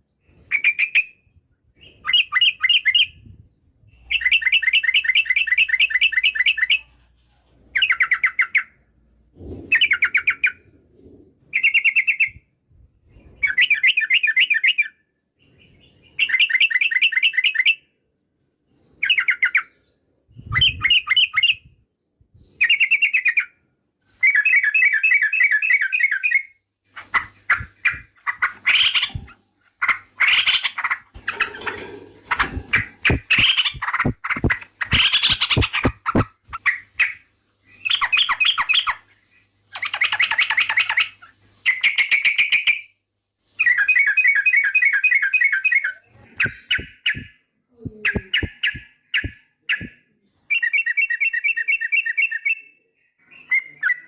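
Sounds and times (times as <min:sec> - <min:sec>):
bird warbling song: 0:00.0 - 0:07.1, 0:07.7 - 0:12.5, 0:13.1 - 0:17.9, 0:18.6 - 0:23.6, 0:24.2 - 0:43.0, 0:43.6 - 0:54.0.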